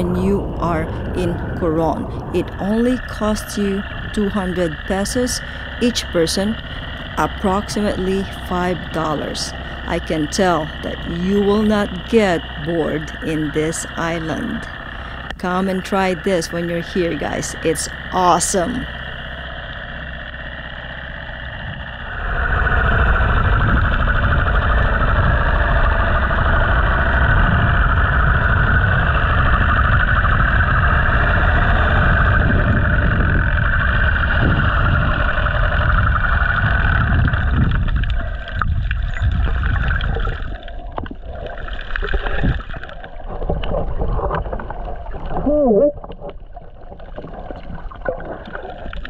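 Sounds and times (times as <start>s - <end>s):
muffled boat engine underwater: 0.0s - 49.0s.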